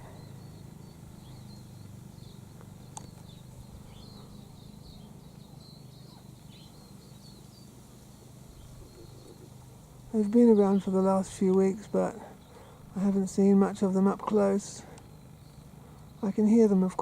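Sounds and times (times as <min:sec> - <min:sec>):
bird chirps: 0:00.0 - 0:17.0
low background hum: 0:00.0 - 0:17.0.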